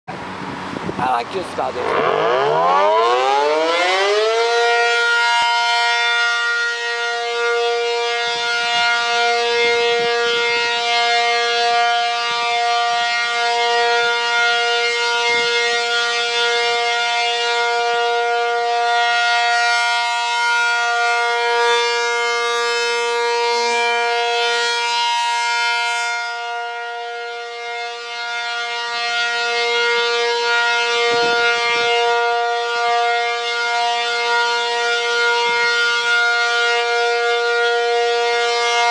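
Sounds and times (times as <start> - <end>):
warning siren wailing: 0.1 - 38.9.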